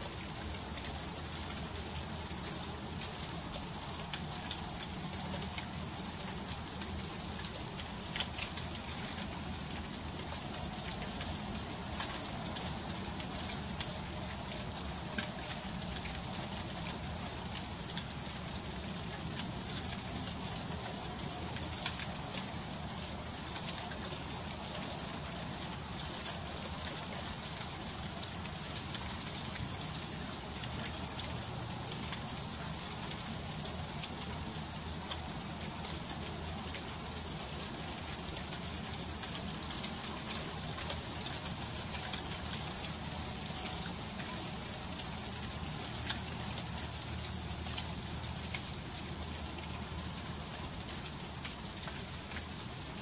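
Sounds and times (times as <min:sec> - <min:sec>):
freezing rain pattering on ice: 0:00.0 - 0:53.0.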